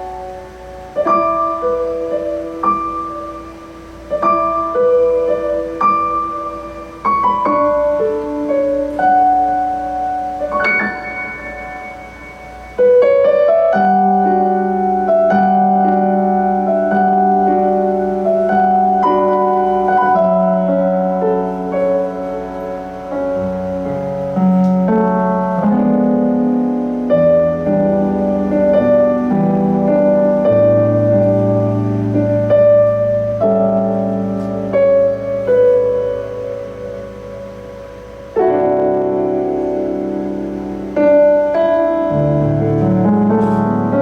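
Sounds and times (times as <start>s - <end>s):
keyboard chords and melody: 0.0s - 44.0s.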